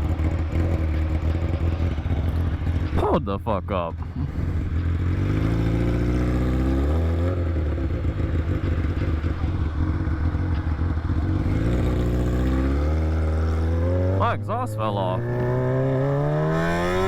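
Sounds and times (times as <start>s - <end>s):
motorcycle engine revving: 0.0s - 3.2s, 3.9s - 17.0s.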